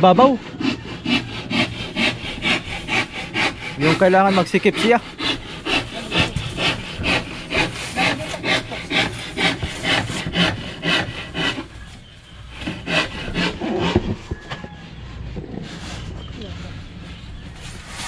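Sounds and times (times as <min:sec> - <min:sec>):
hand saw strokes: 0:00.0 - 0:16.4.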